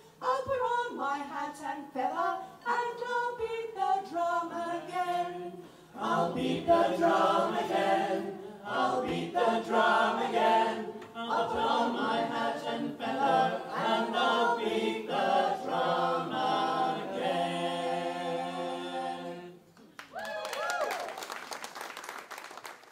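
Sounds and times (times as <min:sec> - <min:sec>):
voices singing in harmony: 0:00.2 - 0:19.7.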